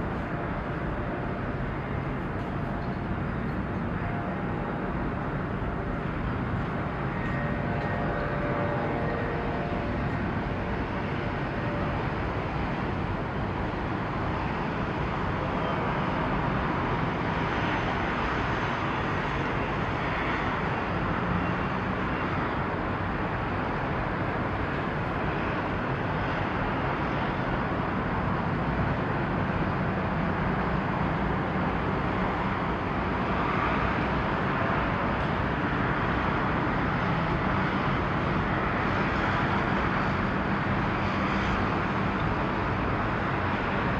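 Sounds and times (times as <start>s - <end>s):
engines and traffic rumble: 0.0s - 43.9s.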